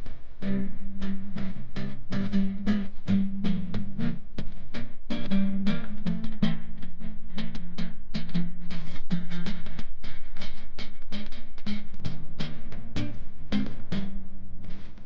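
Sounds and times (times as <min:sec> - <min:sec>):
guitar music: 0:00.0 - 0:15.0.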